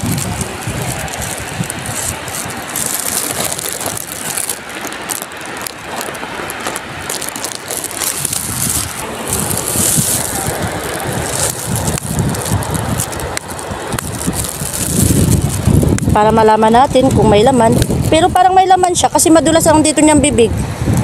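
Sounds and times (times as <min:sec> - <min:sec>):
rubble crunching underfoot: 0:00.0 - 0:18.2
water sloshing: 0:00.0 - 0:19.6
wind buffeting microphone: 0:00.0 - 0:21.0.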